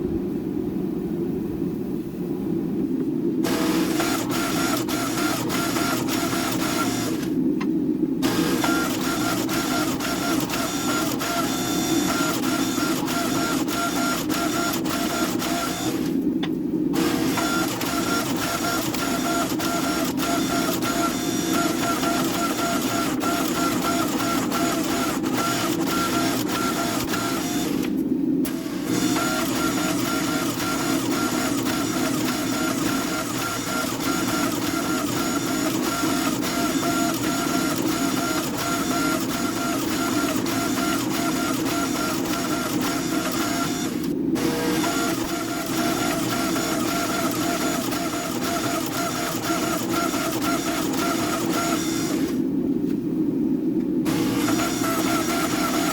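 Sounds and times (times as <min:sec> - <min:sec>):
high machine whine: 0:03.4 - 0:52.8, 0:54.0 - 0:55.9.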